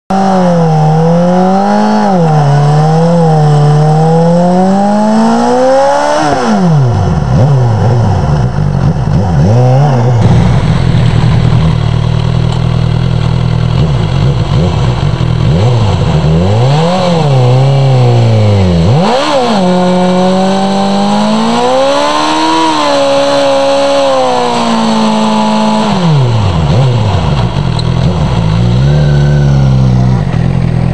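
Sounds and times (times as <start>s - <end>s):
motorcycle engine revving: 0.1s - 30.9s
spinning tyre rushing: 0.1s - 30.9s.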